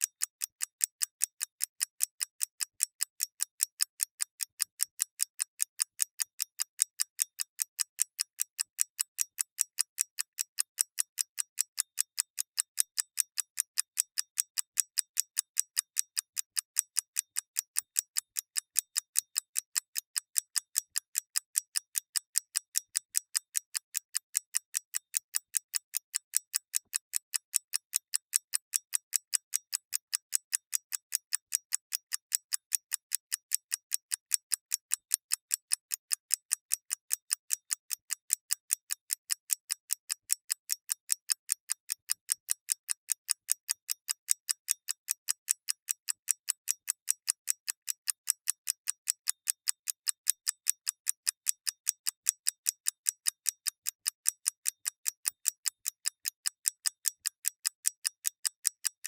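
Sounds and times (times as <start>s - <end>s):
mechanical clock ticking: 0.0s - 59.0s.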